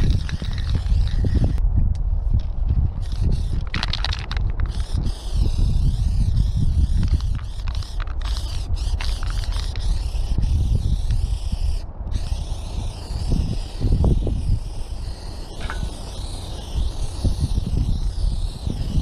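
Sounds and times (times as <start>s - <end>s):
spray paint can hissing: 0.0s - 1.6s, 3.0s - 19.0s
wind buffeting microphone: 0.0s - 19.0s.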